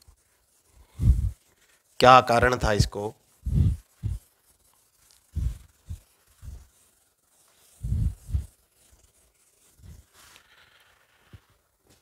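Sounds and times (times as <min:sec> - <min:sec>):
cloth rubbing on whiteboard: 0:00.0 - 0:12.0.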